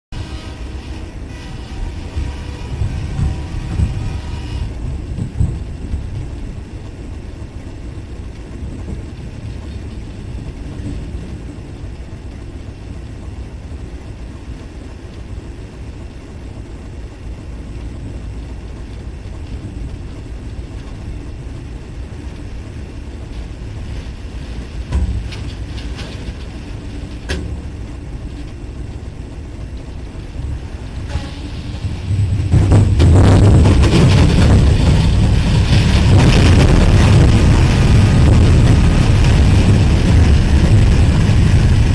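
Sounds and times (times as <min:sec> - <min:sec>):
locomotive cab rumble: 0:00.1 - 0:41.9.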